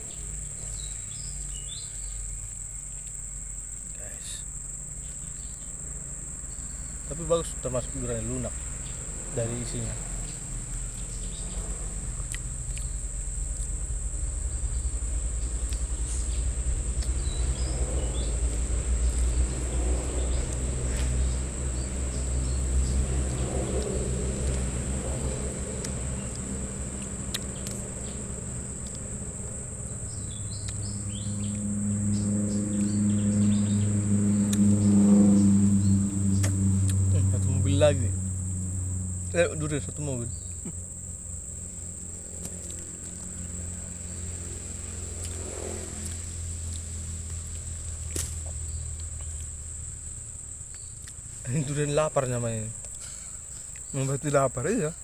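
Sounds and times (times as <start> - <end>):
high-pitched insect drone: 0.0 - 55.0
low hum: 0.0 - 55.0
low rumble: 4.4 - 50.7.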